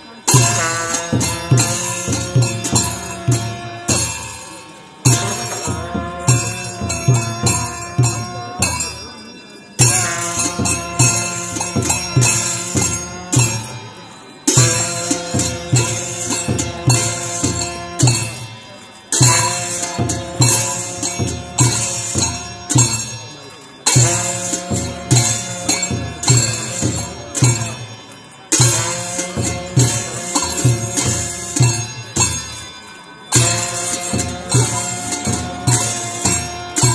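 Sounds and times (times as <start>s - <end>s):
ringing metallic percussion: 0.0s - 36.9s
drum beats: 0.1s - 9.2s, 9.8s - 36.9s.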